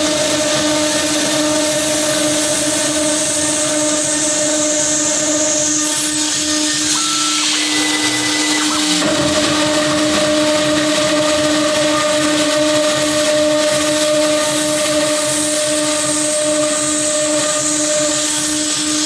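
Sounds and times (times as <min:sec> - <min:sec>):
hissing rush: 0:00.0 - 0:19.0
router spindle whine: 0:00.0 - 0:19.0.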